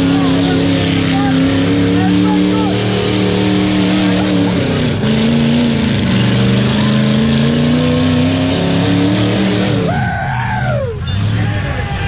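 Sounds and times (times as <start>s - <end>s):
vehicle engine revving: 0.0s - 10.1s.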